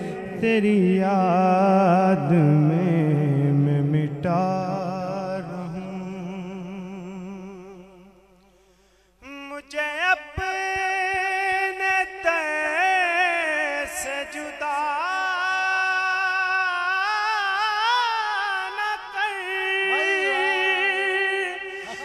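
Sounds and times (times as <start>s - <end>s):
man singing through a microphone: 0.0s - 8.2s, 9.2s - 22.0s.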